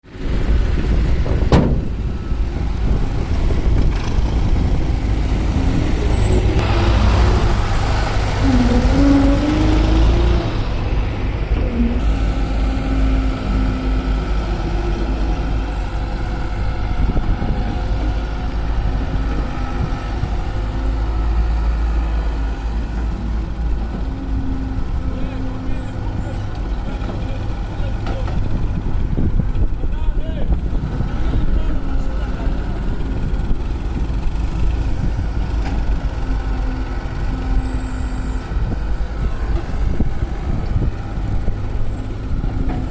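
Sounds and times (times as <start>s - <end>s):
excavator engine rumbling: 0.1s - 42.9s.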